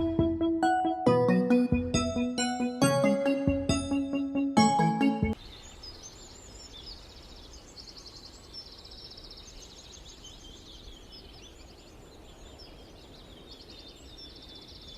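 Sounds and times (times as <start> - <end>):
songbirds chirping and trilling: 0.0 - 14.9.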